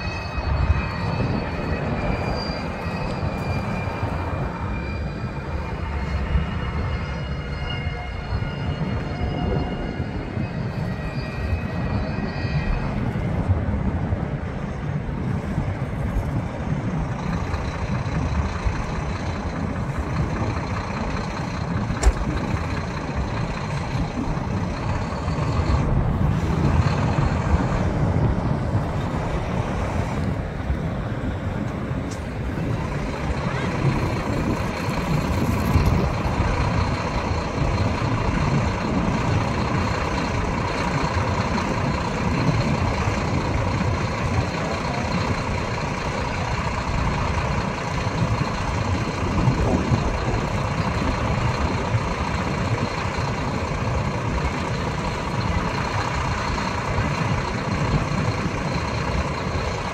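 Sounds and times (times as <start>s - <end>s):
truck diesel engine rumbling: 0.0s - 59.9s.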